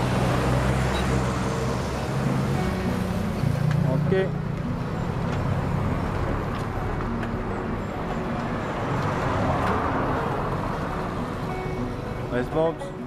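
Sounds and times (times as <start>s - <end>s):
bicycle road noise: 0.0s - 13.0s.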